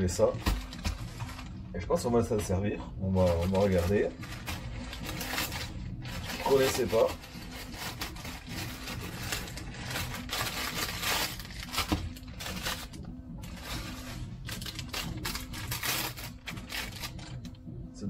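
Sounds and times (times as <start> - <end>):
plastic packaging crinkling: 0.2 - 1.6, 3.2 - 17.5.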